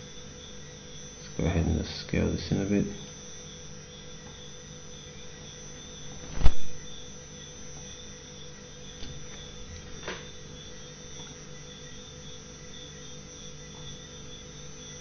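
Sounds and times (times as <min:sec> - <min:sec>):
electrical hum: 0:00.0 - 0:15.0
faint whine: 0:00.0 - 0:15.0.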